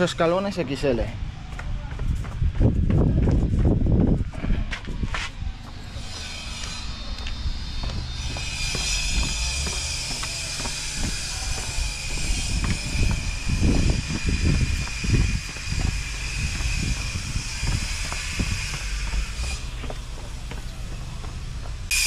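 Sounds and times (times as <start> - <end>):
wind rumble on microphone: 1.0 - 21.9
footsteps on concrete stairs: 1.4 - 21.9.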